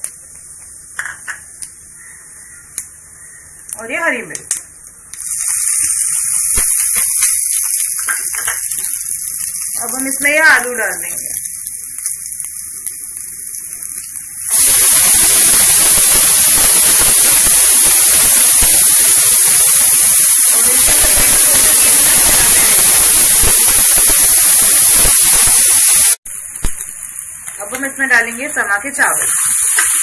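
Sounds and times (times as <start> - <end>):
potato frying hiss: 0.0 - 30.0
oil sizzling in a pan: 5.2 - 30.0.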